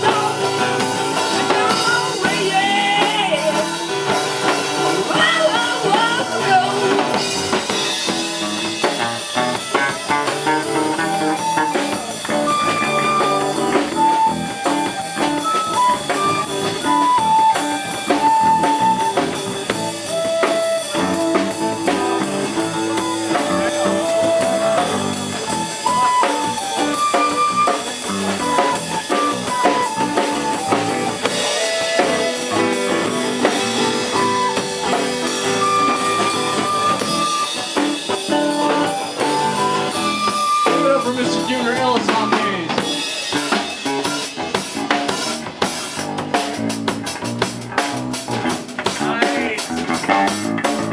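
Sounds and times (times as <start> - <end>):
flute melody: 0.0 - 44.5
acoustic guitar: 0.0 - 50.9
bass guitar: 0.0 - 50.9
drum kit: 0.0 - 50.9.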